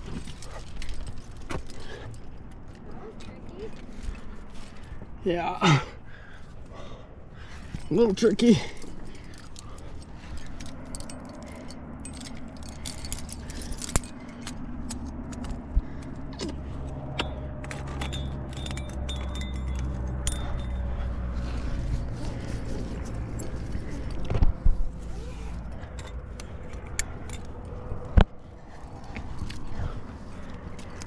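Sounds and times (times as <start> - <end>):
climbing gear clinking: 0.0 - 5.0, 5.6 - 31.0.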